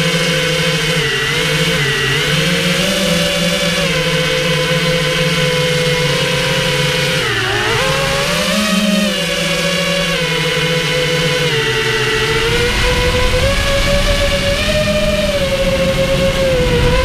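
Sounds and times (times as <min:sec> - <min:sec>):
quadcopter motors and propellers: 0:00.0 - 0:17.0.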